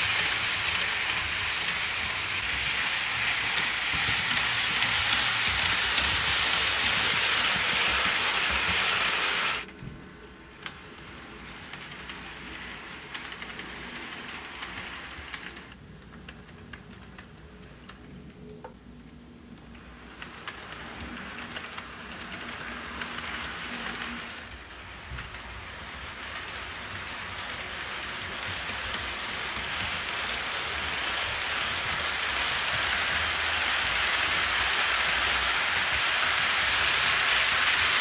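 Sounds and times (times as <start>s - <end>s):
model train rolling on track: 0.0s - 18.4s, 19.4s - 38.0s.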